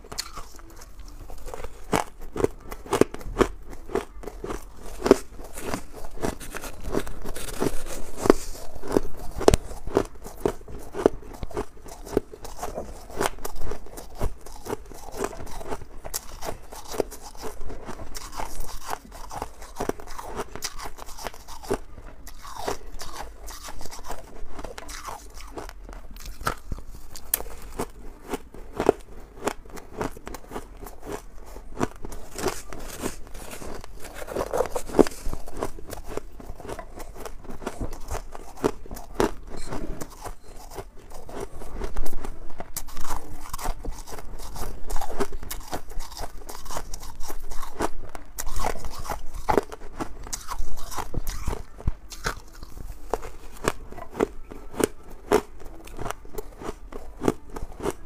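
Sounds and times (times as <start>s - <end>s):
crunching and chewing frost: 0.0s - 58.0s.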